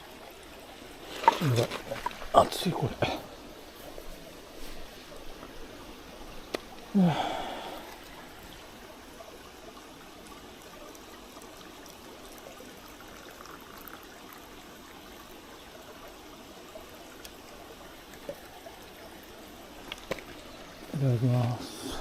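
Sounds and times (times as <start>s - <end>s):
mountain stream running: 0.0s - 22.0s.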